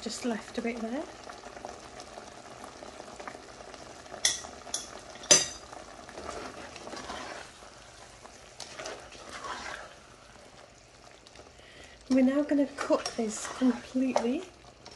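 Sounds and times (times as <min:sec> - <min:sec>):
tomatoes sizzling: 0:00.0 - 0:14.9.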